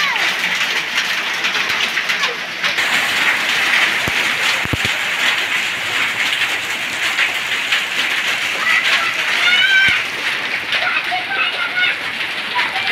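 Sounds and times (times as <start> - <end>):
heavy rain on pavement: 0.0 - 12.9.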